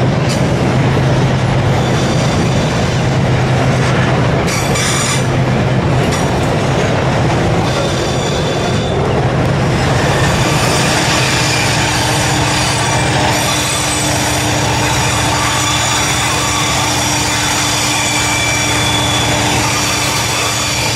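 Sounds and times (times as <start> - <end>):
freight train rumble: 0.0 - 20.9
wheels squealing on rails: 0.0 - 20.9.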